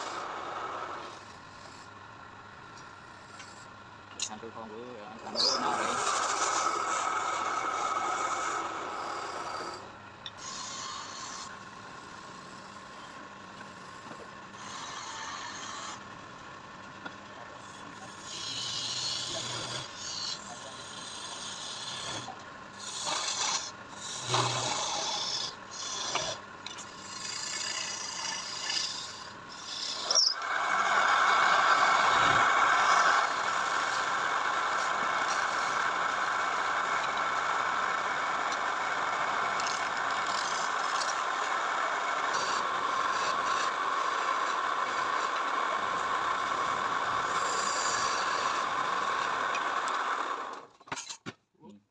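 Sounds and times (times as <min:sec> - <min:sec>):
wood being scraped by hand: 0:05.2 - 0:16.1, 0:17.6 - 0:51.3.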